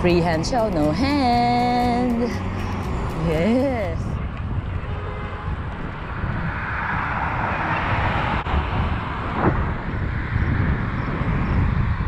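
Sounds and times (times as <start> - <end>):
road vehicle passing: 0.0 - 12.0
wind rumbling on microphone: 0.0 - 12.0.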